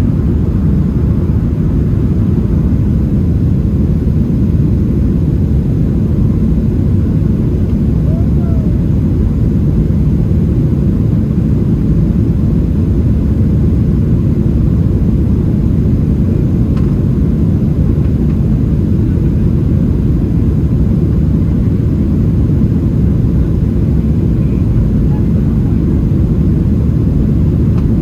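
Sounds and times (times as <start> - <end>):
airplane cabin engine rumble: 0.0 - 28.0.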